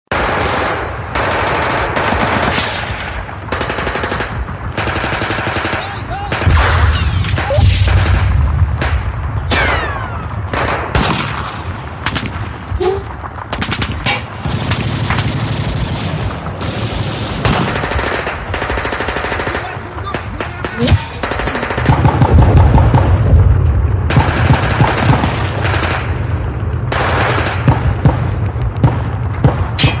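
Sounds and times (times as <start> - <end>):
machine-gun fire and gunshots: 0.1 - 30.0
heavy deep rumble: 3.1 - 30.0.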